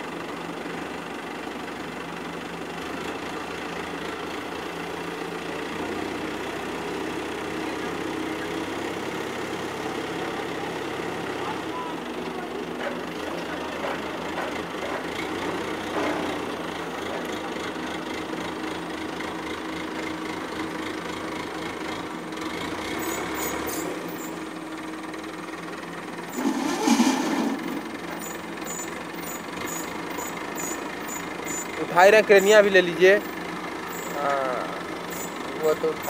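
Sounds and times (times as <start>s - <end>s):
crane diesel engine running: 0.0s - 36.0s.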